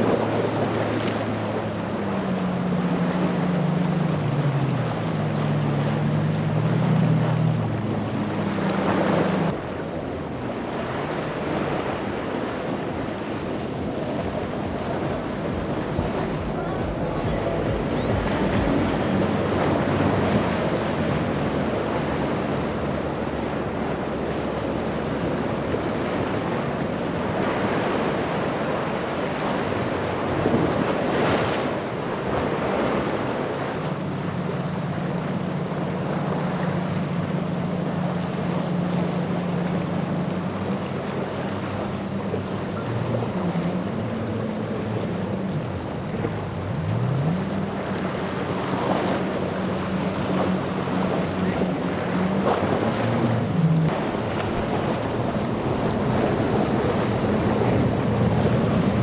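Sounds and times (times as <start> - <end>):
wind buffeting microphone: 0.0 - 34.1, 36.0 - 59.0
boat hulls slapping waves: 0.0 - 59.0
low engine drone: 0.0 - 59.0.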